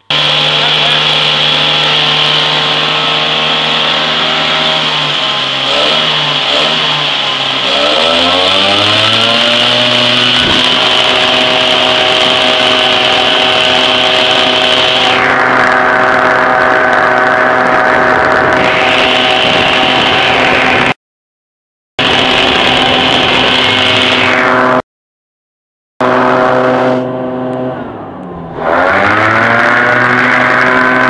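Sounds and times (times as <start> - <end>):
turbojet engine whine: 0.0 - 21.0, 22.0 - 24.8, 26.0 - 31.0.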